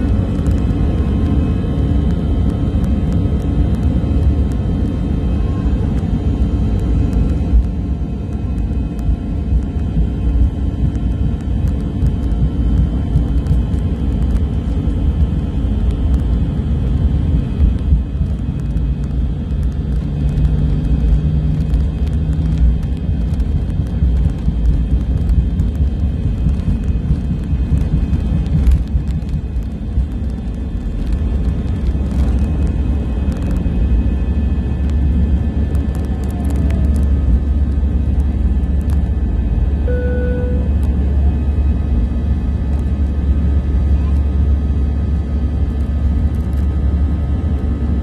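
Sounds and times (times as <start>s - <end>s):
jet engines at takeoff thrust: 0.0s - 48.0s
wheels rumbling on runway: 0.0s - 48.0s.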